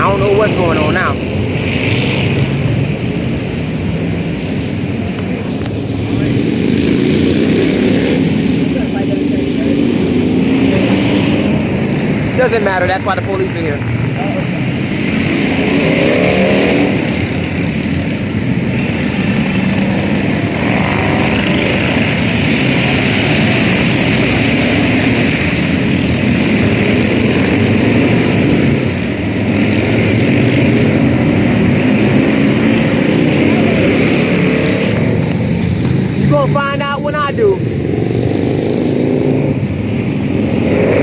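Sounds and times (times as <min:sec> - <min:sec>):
motorcycle engine revving: 0:00.0 - 0:36.8, 0:37.5 - 0:41.0
group of motorcycles riding past: 0:00.0 - 0:41.0.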